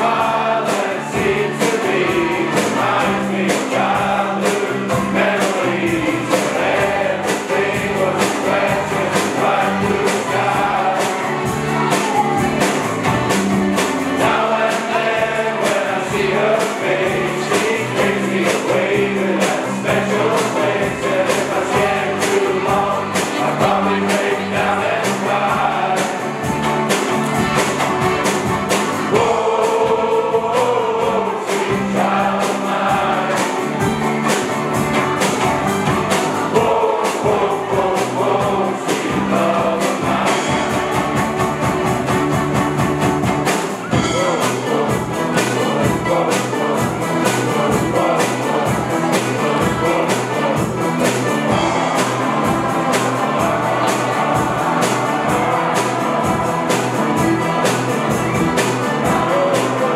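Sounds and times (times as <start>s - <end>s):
group singing in chorus: 0.0s - 59.9s
steady beat: 0.0s - 59.9s.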